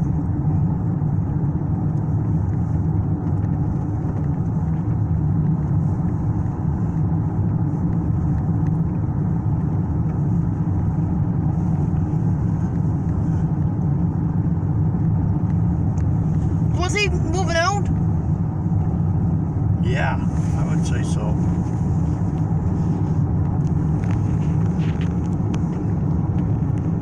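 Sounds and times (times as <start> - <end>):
low rumble inside car: 0.0 - 27.0.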